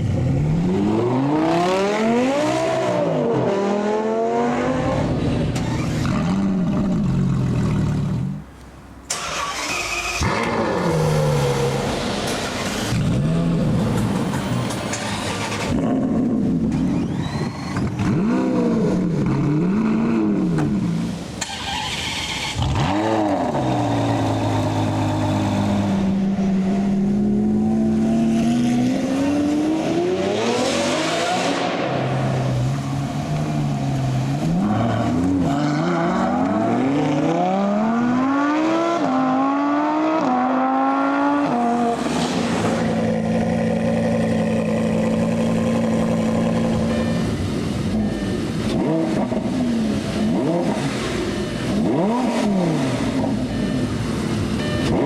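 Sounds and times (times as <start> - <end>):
sports car engines revving: 0.0 - 8.5, 9.2 - 55.0.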